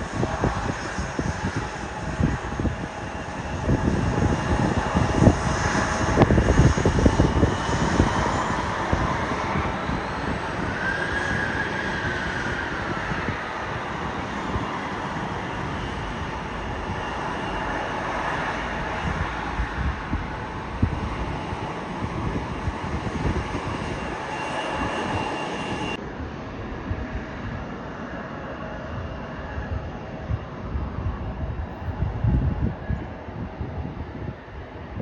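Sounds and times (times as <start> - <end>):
airplane passing: 0.0 - 35.0.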